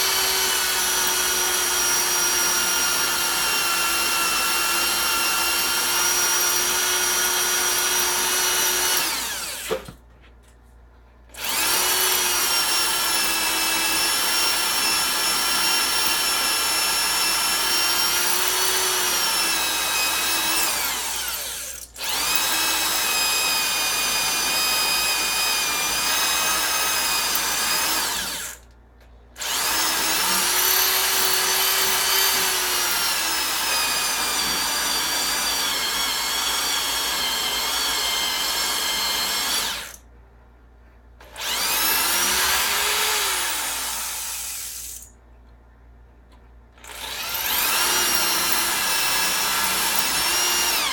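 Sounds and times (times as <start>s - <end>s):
power drill whining: 0.0s - 10.0s, 11.4s - 28.6s, 29.4s - 40.0s, 41.2s - 45.1s, 46.8s - 50.9s.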